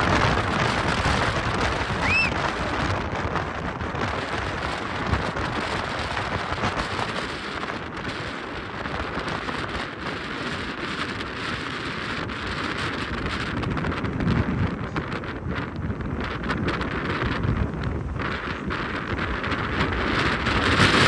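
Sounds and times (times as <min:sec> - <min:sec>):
wind and road noise from car: 0:00.0 - 0:21.0
wind buffeting microphone: 0:00.0 - 0:21.0.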